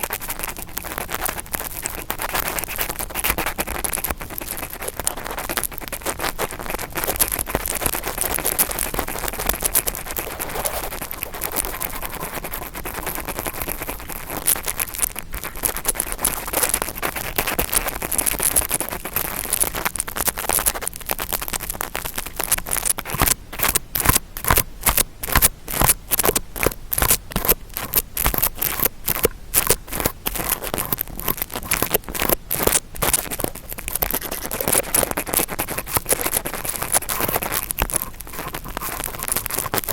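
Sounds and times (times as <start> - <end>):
brush scratching in ear: 0.0 - 20.0, 22.5 - 39.9.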